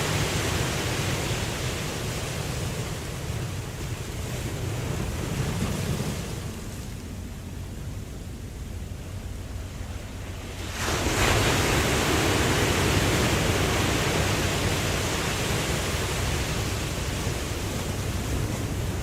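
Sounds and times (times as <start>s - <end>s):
low rumble of surf: 0.0s - 19.0s
ocean wave breaking: 0.0s - 19.0s.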